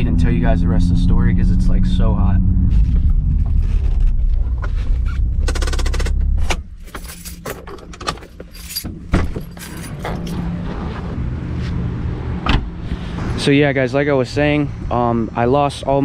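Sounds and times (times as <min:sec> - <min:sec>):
car engine low rumble: 0:00.0 - 0:16.0.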